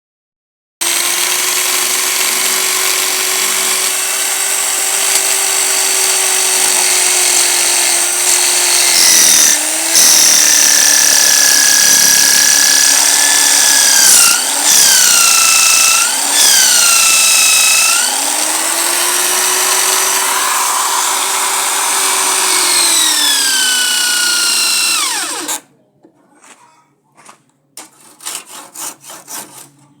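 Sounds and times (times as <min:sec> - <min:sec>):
power tool cutting wood: 0:00.8 - 0:25.6.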